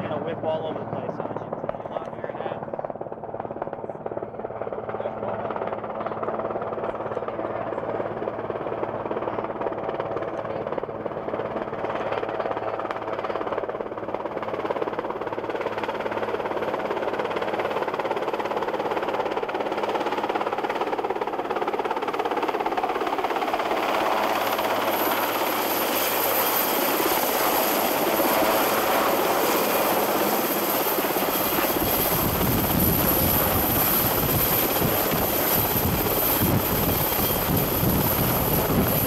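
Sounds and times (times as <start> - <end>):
helicopter rotor and turbine: 0.0 - 39.0.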